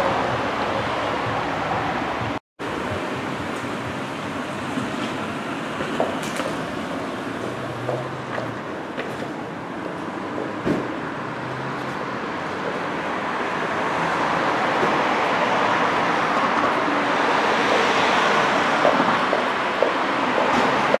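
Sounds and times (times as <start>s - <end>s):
vehicle approaching: 0.0s - 21.0s.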